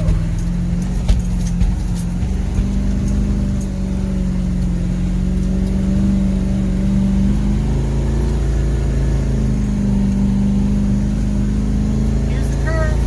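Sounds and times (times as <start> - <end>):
diesel engine pulling under load: 0.0 - 13.0.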